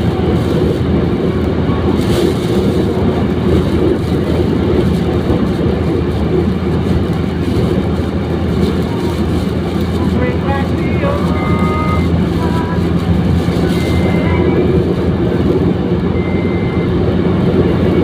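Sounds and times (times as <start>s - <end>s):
vehicle driving through sandstorm: 0.0s - 18.0s.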